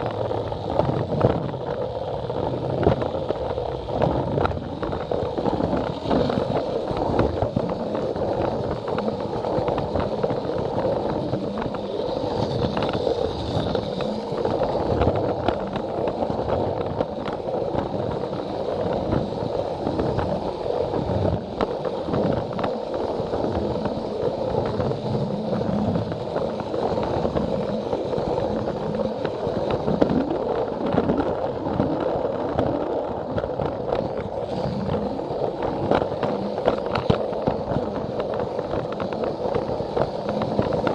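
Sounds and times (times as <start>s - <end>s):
wheels clicking over track joints: 0.0s - 40.9s.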